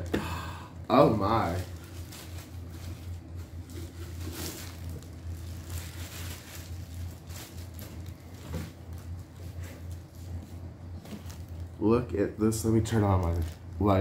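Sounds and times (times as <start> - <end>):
plastic wrapping crinkling: 1.0 - 14.0.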